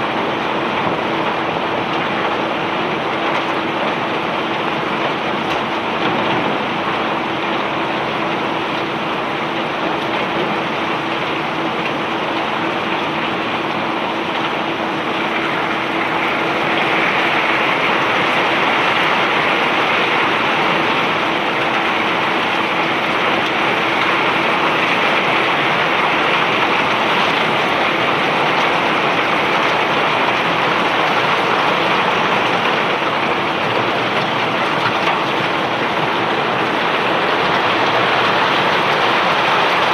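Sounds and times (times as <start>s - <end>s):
machinery hum: 0.0s - 39.9s.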